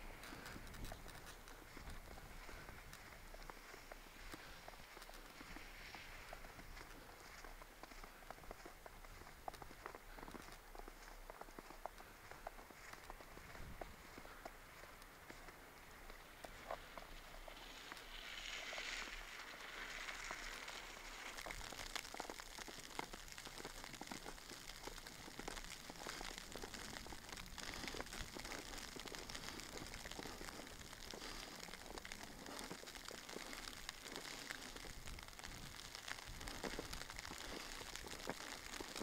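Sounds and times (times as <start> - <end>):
falling snow patter: 0.0 - 39.0
footsteps crunching in snow: 0.0 - 39.0.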